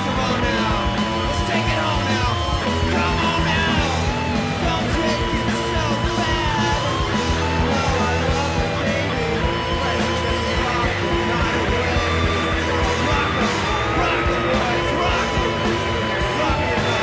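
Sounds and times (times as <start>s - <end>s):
bending electric guitar lines: 0.0s - 17.0s
drum beat: 0.0s - 17.0s
rock band playing: 0.0s - 17.0s.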